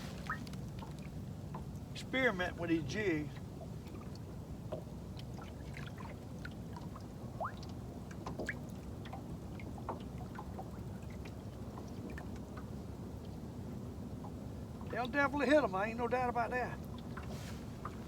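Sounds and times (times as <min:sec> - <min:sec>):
low steady rumble: 0:00.0 - 0:18.0
water trickling and dripping: 0:00.0 - 0:18.0.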